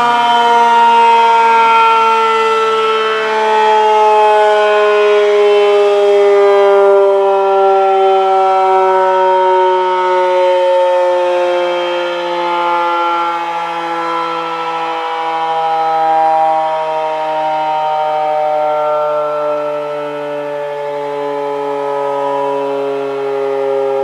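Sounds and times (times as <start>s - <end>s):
fire siren wailing: 0.0s - 24.0s.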